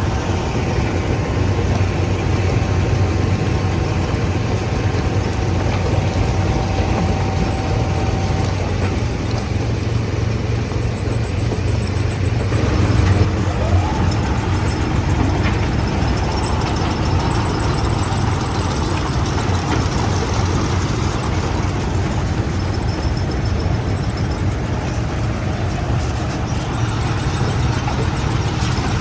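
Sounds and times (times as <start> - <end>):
heavy machinery low hum: 0.0 - 29.0
machine whine: 0.0 - 29.0.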